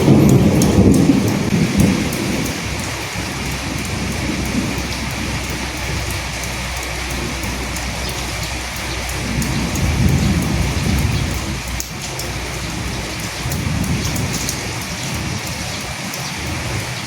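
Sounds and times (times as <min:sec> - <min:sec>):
low rumble: 0:00.0 - 0:15.7
rain falling: 0:00.0 - 0:17.0.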